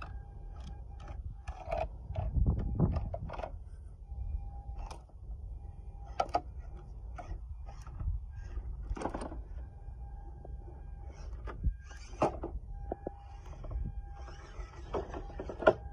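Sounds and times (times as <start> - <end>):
small electric motor whining: 0.0 - 15.9.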